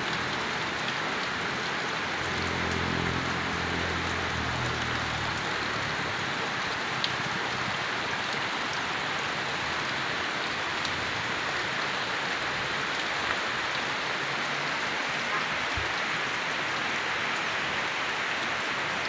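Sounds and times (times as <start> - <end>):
rain falling on foliage: 0.0 - 19.0.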